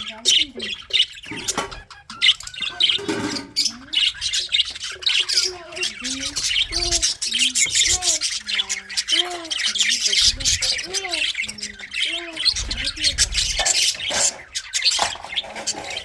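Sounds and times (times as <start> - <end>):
budgerigars chattering: 0.0 - 16.0.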